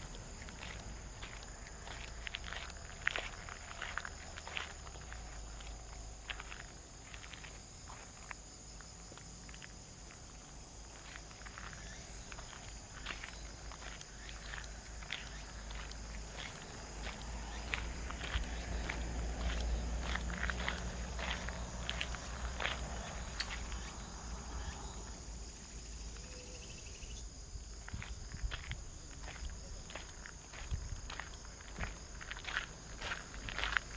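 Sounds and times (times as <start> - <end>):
crickets droning: 0.0 - 33.9
insects chirping: 0.0 - 33.9
footsteps: 0.1 - 8.4, 9.1 - 25.2, 27.8 - 33.9.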